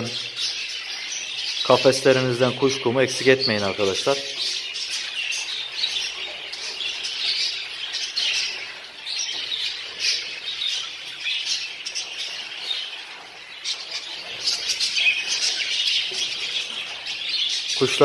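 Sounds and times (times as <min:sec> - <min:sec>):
budgerigars chattering: 0:00.0 - 0:18.0.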